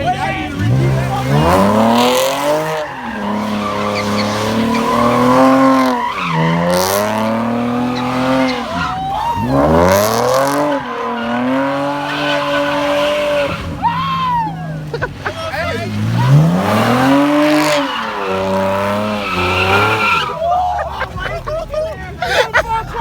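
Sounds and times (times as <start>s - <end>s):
car engine revving hard: 0.0s - 22.2s
tire squeal: 0.0s - 23.0s.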